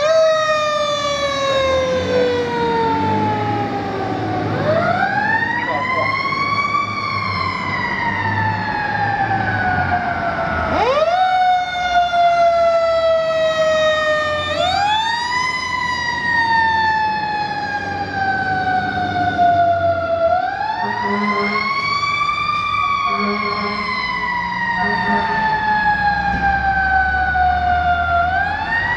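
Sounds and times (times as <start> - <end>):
fire truck siren wailing: 0.0 - 28.9
truck engine rumble: 0.0 - 28.9.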